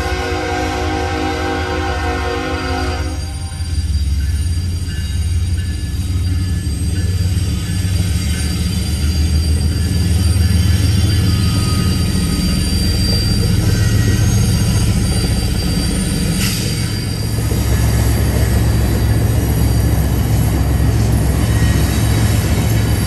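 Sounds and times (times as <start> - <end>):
diesel locomotive engines rumbling: 0.0 - 23.0
train wheels rolling on rails: 2.5 - 23.0.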